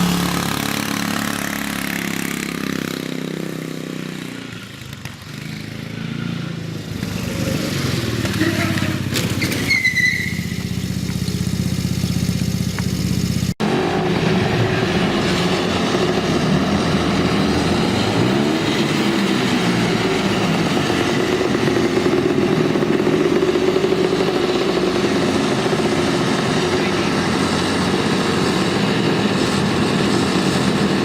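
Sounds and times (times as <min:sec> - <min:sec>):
engine running at higher pitch: 0:00.0 - 0:31.0
small petrol engine running: 0:00.0 - 0:31.0.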